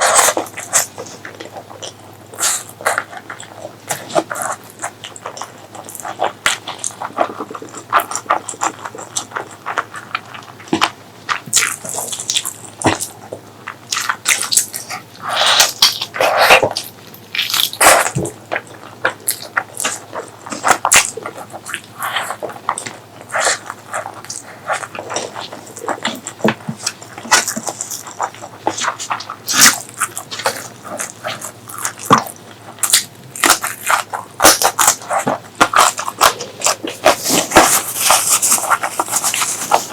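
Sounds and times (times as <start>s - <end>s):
person chewing and lip-smacking: 0.0s - 39.9s.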